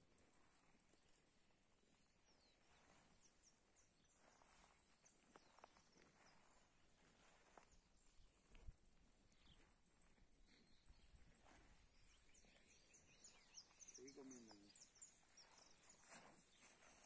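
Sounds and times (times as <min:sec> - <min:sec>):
faint high chirps: 0:00.6 - 0:17.0.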